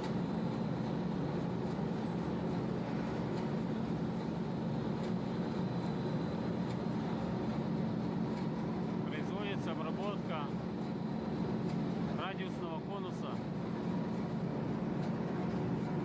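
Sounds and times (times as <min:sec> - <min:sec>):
lathe machine hum: 0:00.0 - 0:16.0.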